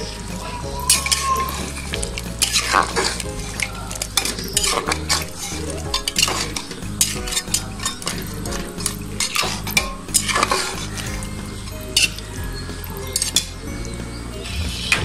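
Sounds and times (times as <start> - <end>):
spatula scraping metal pot: 0.0 - 12.4.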